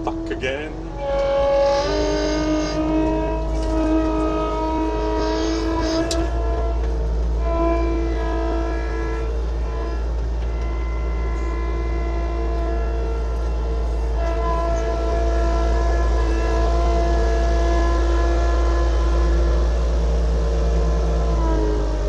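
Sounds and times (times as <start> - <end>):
earthmoving machine engine whining: 0.0 - 22.0.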